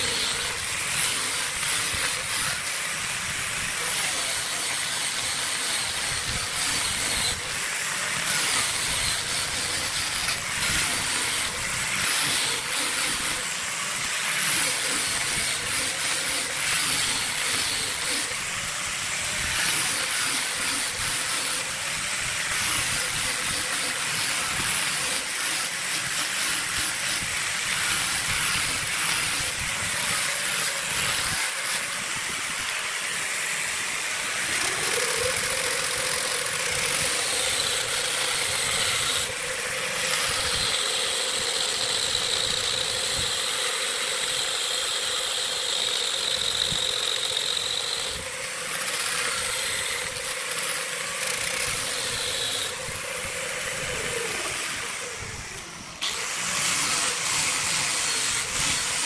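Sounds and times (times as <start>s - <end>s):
angle grinder sanding wood: 0.0s - 59.0s
lathe motor hum: 0.0s - 59.0s.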